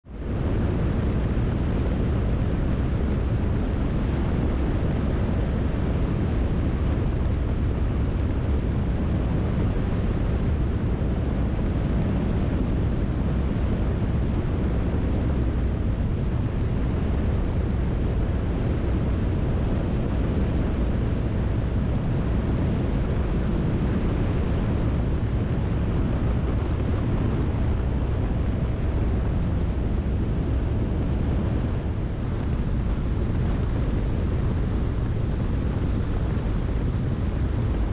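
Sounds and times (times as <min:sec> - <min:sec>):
plane engine and propeller drone: 0:00.0 - 0:37.9
wind rush on microphone: 0:00.0 - 0:37.9.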